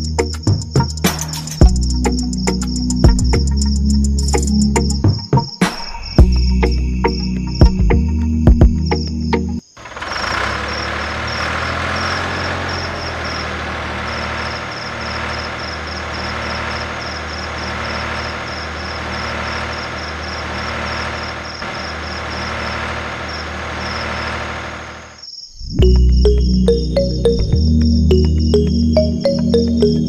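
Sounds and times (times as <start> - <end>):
low mechanical drone: 0.0 - 5.1, 9.8 - 30.0.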